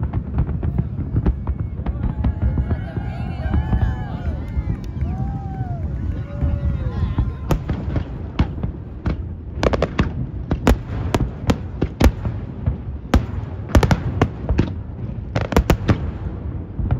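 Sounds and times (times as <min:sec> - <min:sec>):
continuous low rumble: 0:00.0 - 0:15.4.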